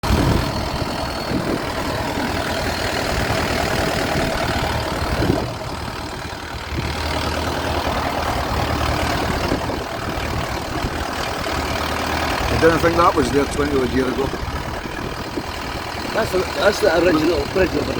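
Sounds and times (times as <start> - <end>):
boat engine running: 0.0 - 17.9.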